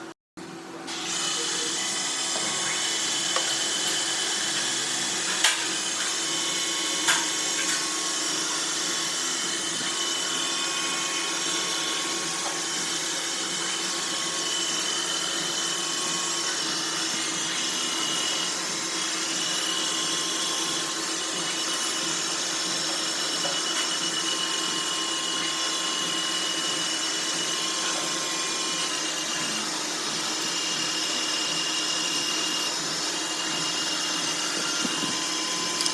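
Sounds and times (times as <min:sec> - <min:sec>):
machine humming and hissing: 0:00.4 - 0:35.9.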